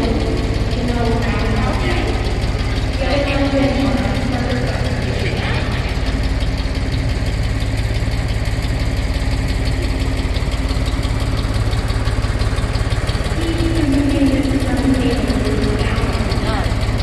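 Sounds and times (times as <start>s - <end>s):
higher mechanical tone: 0.0s - 8.4s, 9.0s - 17.0s
pulsing machinery rumble: 0.0s - 17.0s.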